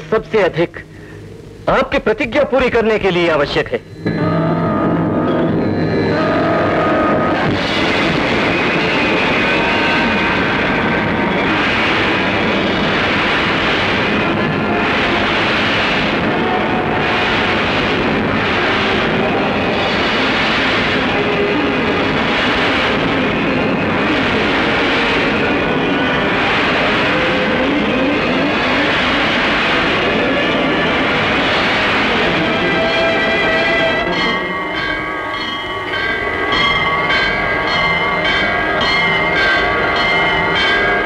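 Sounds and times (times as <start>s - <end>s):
dense rushing roar: 4.0s - 41.0s.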